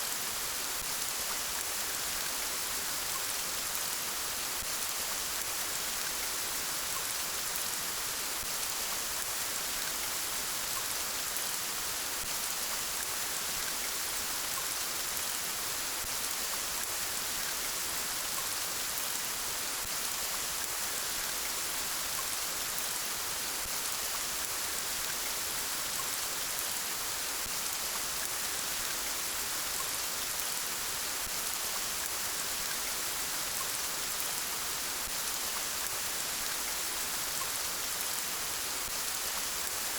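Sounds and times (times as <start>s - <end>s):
rain falling: 0.1s - 39.9s.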